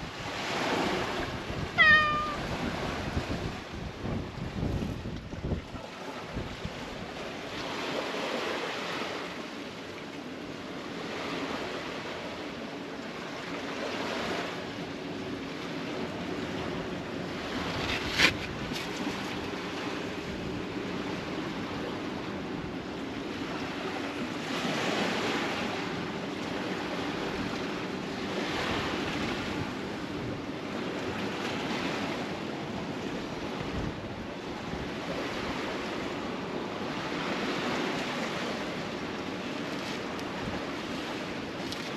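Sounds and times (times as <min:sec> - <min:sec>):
sea waves washing against breakwater: 0:00.0 - 0:41.9.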